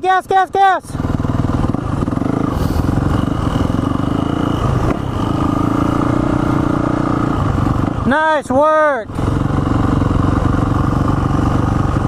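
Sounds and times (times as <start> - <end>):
small dirt bike engine running: 0.3 - 12.0.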